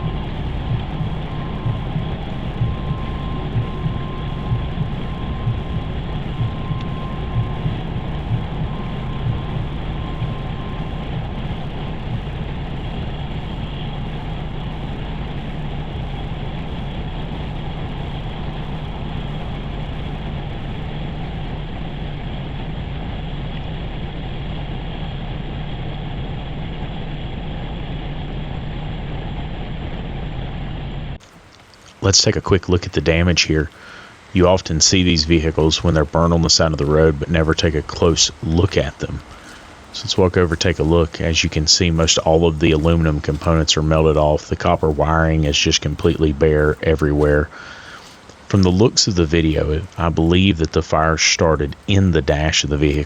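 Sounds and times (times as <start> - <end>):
low mechanical rumble: 0.0 - 53.0.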